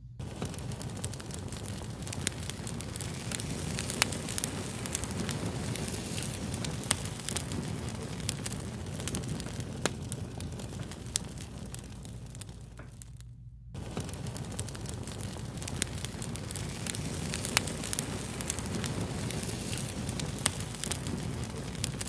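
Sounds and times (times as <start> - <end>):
low rumble of burning: 0.0 - 22.0
fire crackling and popping: 0.2 - 22.0.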